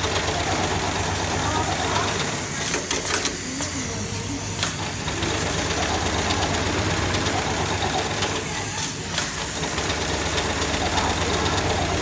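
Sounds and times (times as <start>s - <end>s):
sewing machine humming: 0.0s - 12.0s.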